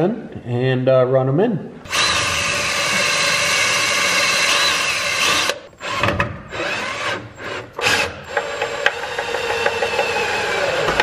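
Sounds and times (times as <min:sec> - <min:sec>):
cordless screw gun running: 0:01.9 - 0:11.0.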